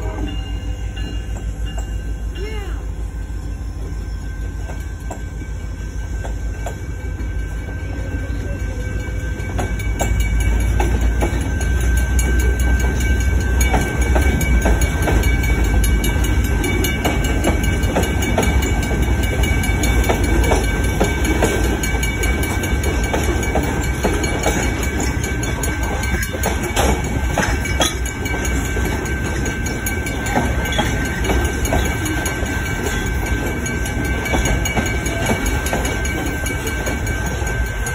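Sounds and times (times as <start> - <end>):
wheels clattering on rails: 0.0 - 37.9.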